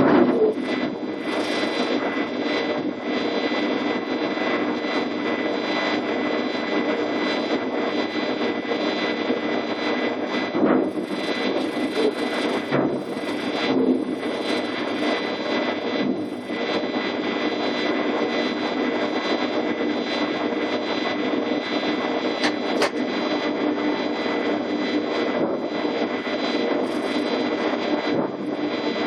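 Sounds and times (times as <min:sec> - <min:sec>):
electric train drone and whine: 0:00.0 - 0:29.0.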